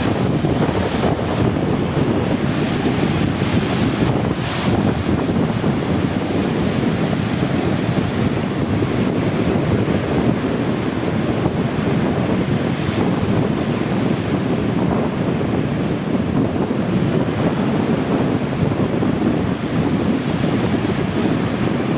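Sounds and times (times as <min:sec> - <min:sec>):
sea rushing: 0:00.0 - 0:21.9
wind buffeting microphone: 0:00.0 - 0:21.9.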